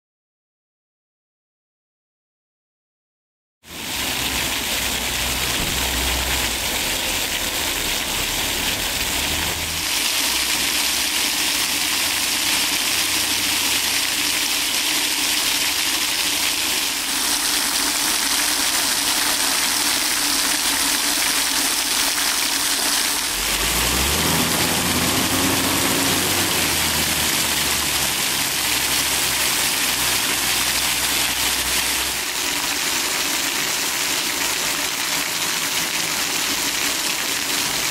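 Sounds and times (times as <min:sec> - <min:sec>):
fountain jets splashing on paving: 0:03.6 - 0:37.9.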